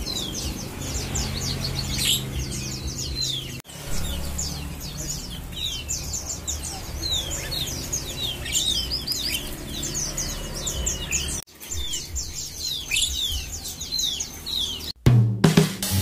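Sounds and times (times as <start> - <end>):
birds chirping together: 0.0 - 15.0.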